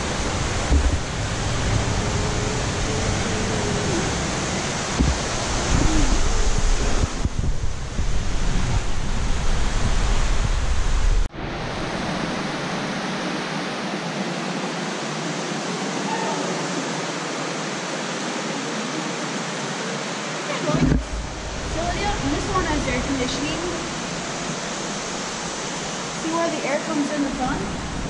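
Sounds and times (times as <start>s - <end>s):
steady hissing noise: 0.0s - 28.0s.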